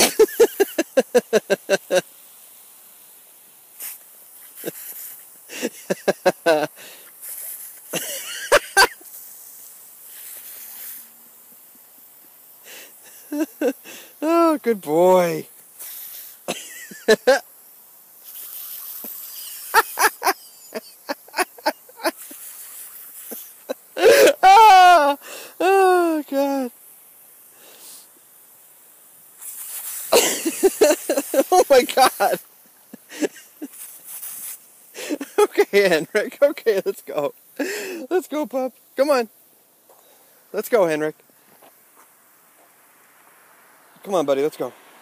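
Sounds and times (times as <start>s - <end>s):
sprinkler spray hissing: 0.0s - 45.0s.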